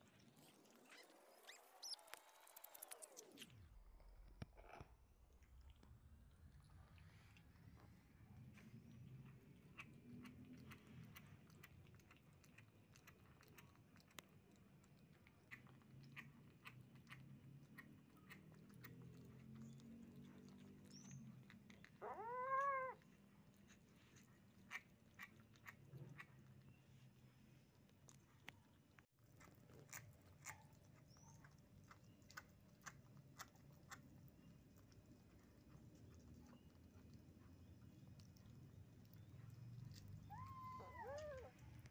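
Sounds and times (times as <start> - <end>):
kittens chewing and smacking: 0.0 - 41.9.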